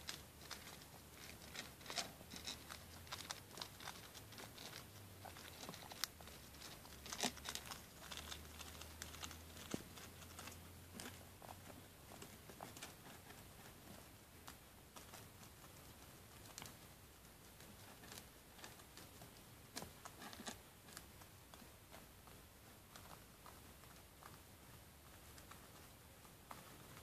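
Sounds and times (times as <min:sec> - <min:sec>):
guinea pigs nibbling: 0:00.0 - 0:27.0
rustling on plastic cage floor: 0:00.0 - 0:27.0.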